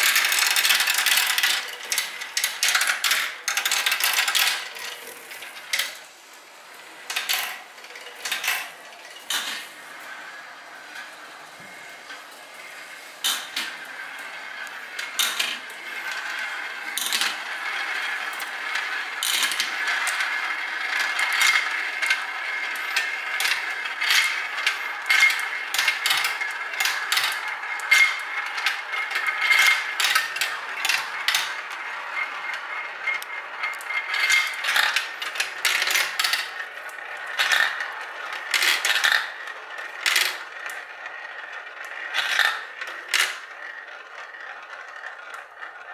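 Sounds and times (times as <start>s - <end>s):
marbles clicking and clacking: 0.0s - 45.9s
marbles rolling on plastic track: 0.0s - 45.9s
mechanical whir of elevators: 0.0s - 45.9s.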